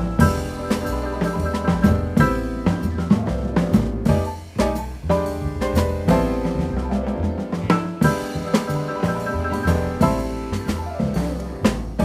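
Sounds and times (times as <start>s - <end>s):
double bass: 0.0s - 12.0s
drum kit accents: 0.0s - 12.0s
piano chords: 0.0s - 12.0s.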